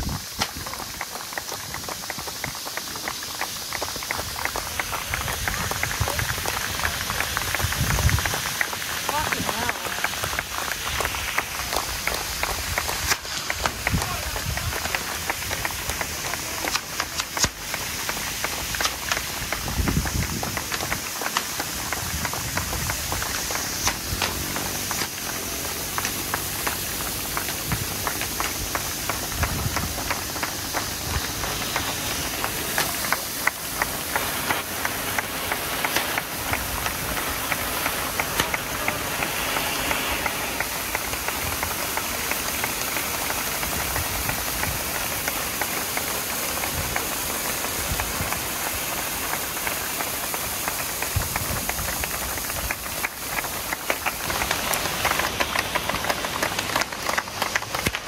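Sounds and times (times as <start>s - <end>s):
flares clicking and crackling: 0.0s - 58.0s
flares hissing: 0.0s - 58.0s.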